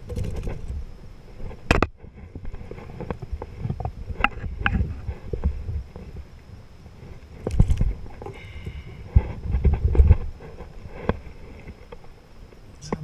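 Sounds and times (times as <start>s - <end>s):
wind on microphone: 0.0s - 11.9s.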